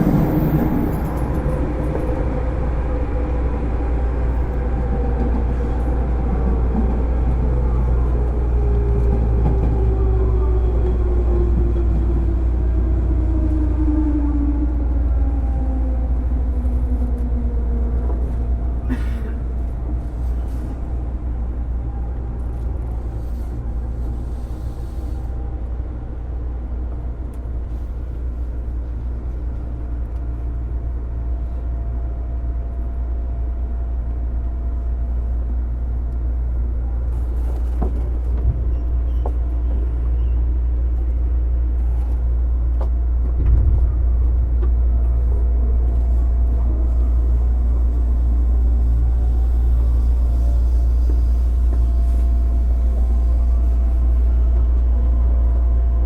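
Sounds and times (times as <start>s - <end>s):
electric train motor rumble: 0.0s - 56.0s.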